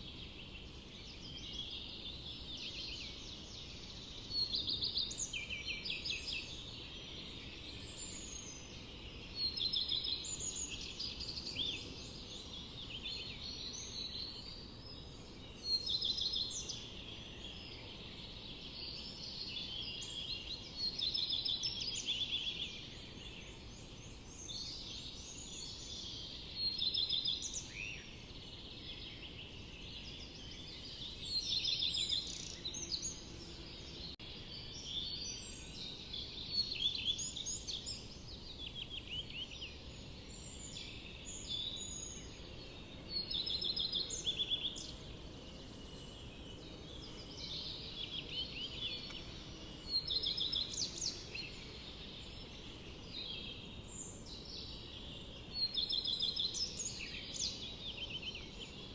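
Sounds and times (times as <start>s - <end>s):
low background hiss: 0.0s - 58.9s
songbirds chirping: 0.0s - 58.9s.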